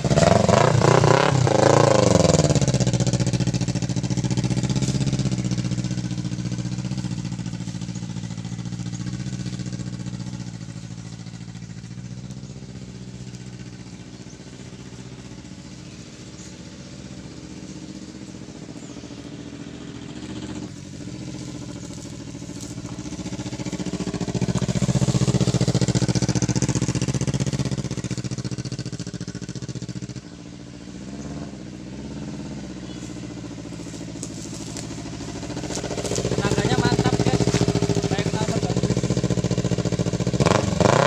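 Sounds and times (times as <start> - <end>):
motorcycle engine passing: 0.0 - 41.0.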